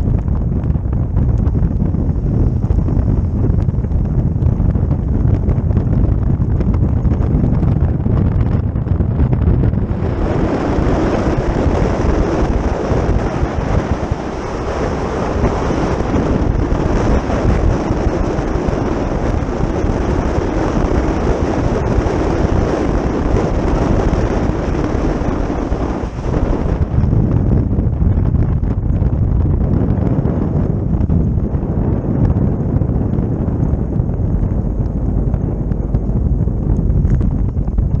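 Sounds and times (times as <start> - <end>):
continuous low rumble: 0.0 - 38.0
wind buffeting microphone: 0.0 - 38.0.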